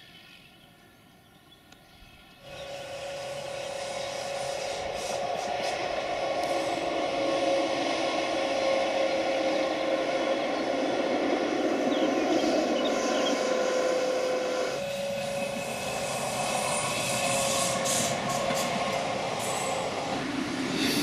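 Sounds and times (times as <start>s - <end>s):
electric railcar hum: 0.0s - 21.0s
wheels rushing on rails: 2.2s - 21.0s.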